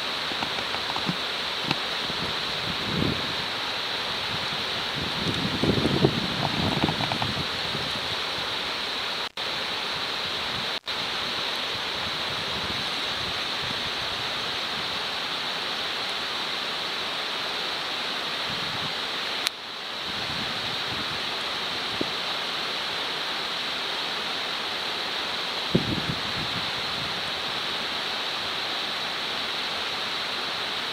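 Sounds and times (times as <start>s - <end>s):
steady hissing noise: 0.0s - 30.9s.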